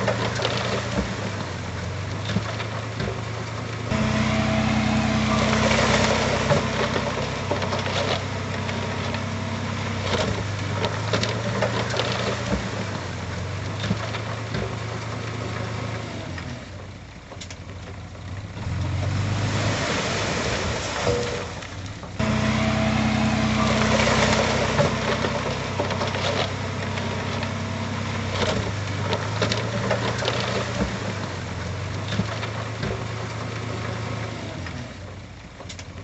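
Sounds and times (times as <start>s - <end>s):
heavy diesel engine running: 0.0s - 17.0s, 18.7s - 35.4s.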